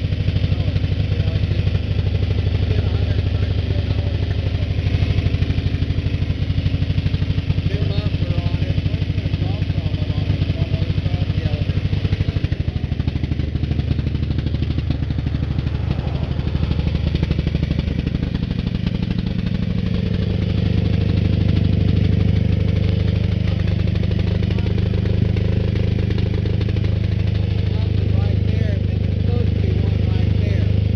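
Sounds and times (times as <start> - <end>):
diesel generator engine running: 0.0 - 30.9.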